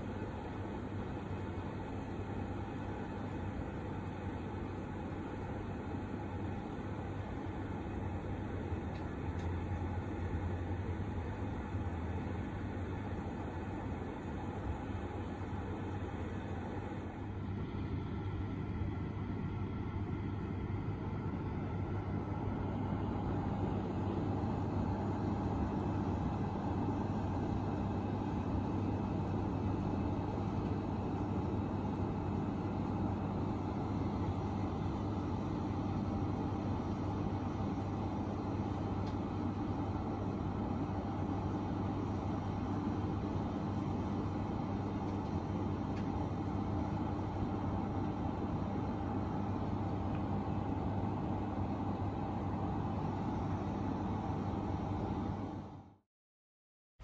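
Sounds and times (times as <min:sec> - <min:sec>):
fan heater humming: 0:00.0 - 0:56.0.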